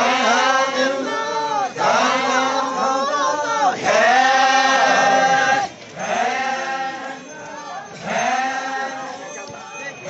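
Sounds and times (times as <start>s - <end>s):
group chanting a folk song: 0.0s - 9.6s.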